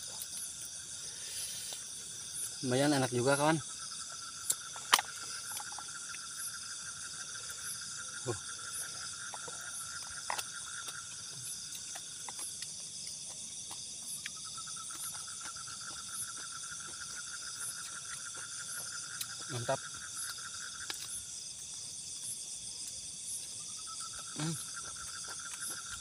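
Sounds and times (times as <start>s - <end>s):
crickets and insects trilling: 0.0s - 26.0s.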